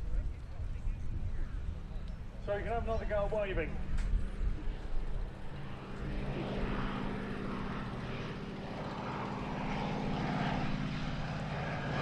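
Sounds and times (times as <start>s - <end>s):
propeller aircraft flying past: 0.0s - 12.0s.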